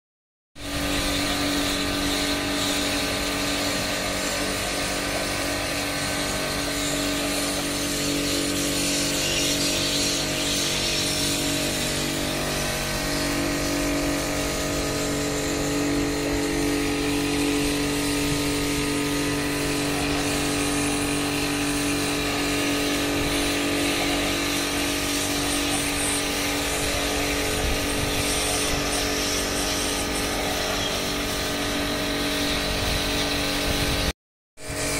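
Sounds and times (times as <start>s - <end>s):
pressure washer motor hum: 0.6s - 34.9s
water jet spraying metal roof: 0.6s - 34.9s.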